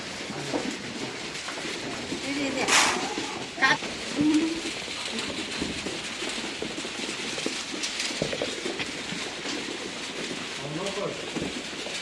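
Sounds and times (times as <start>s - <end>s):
sheep hoof steps: 0.0s - 12.0s.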